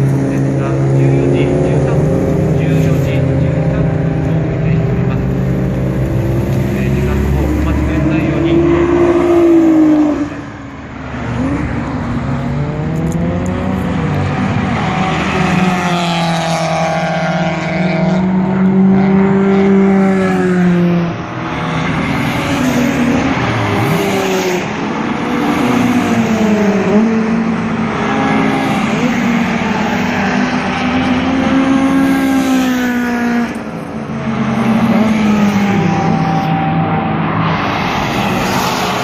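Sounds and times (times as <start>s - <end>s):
sports cars racing past: 0.0s - 39.0s.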